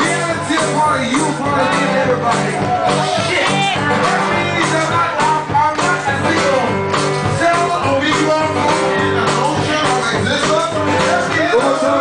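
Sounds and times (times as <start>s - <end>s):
drum beat: 0.0s - 12.0s
rock band playing: 0.0s - 12.0s.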